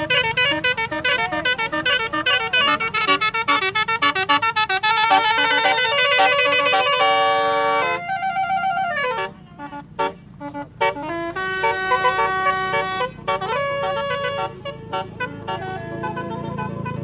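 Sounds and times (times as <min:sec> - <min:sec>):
air horns playing a tune: 0:00.0 - 0:17.0.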